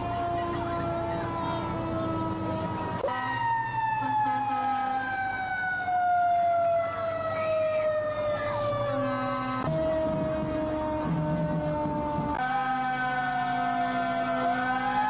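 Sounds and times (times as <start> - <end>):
fire engine siren: 0.0 - 15.0.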